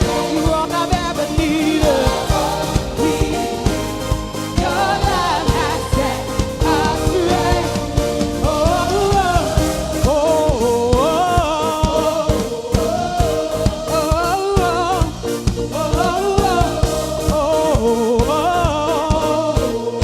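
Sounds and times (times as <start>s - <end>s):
drum beat: 0.0s - 20.0s
live band playing: 0.0s - 20.0s
person singing: 0.0s - 20.0s.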